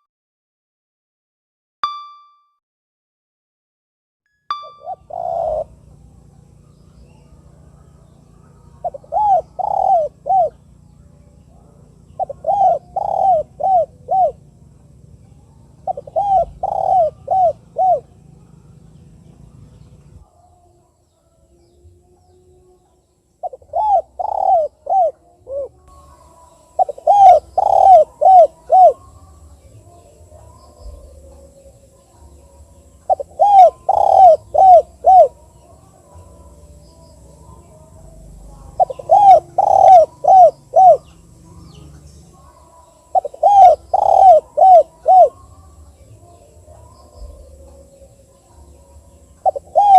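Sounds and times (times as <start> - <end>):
dove cooing: 4.8 - 20.0, 23.4 - 49.9.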